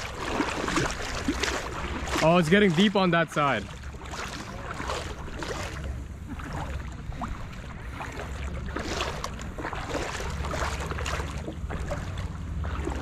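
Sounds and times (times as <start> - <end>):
sea water splashing: 0.0 - 13.0
steady low rumble: 0.0 - 13.0.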